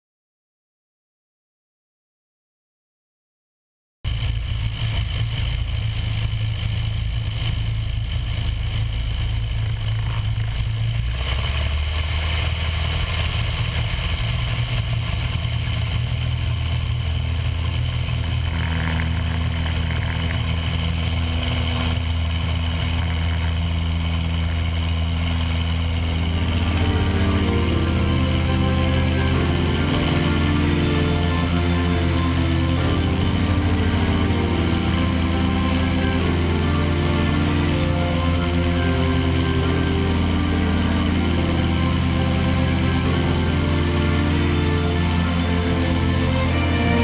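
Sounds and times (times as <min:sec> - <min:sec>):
propeller plane engine drone: 0:04.1 - 0:47.0.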